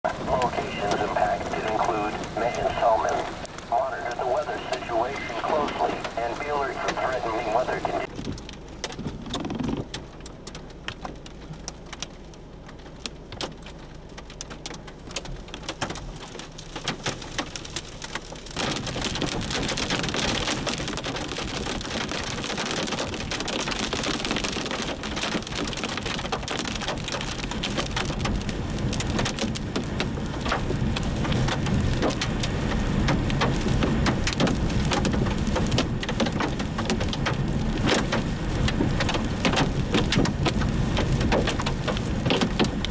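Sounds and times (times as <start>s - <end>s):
heavy rain falling: 0.0s - 8.1s, 8.7s - 42.9s.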